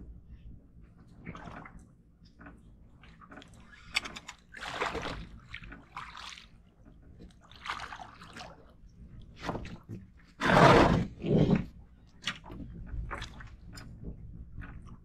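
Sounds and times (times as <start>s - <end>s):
water sloshing against boat: 0.2s - 15.0s.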